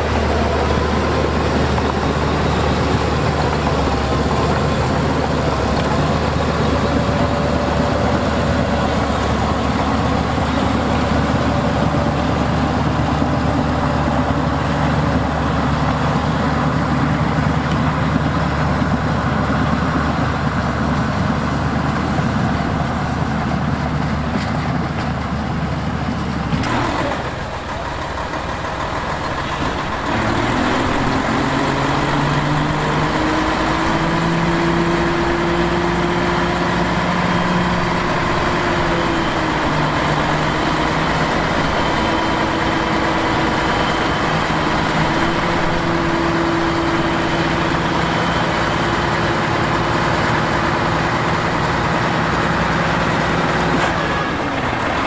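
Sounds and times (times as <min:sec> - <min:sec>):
heavy machinery engine hum: 0:00.0 - 0:55.0.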